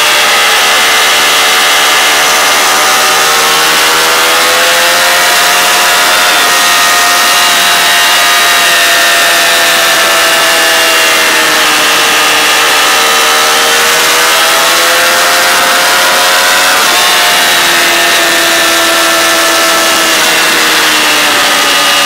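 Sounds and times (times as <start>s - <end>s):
motorcycle engine at high revs: 0.0s - 22.0s
wind rush: 0.0s - 22.0s.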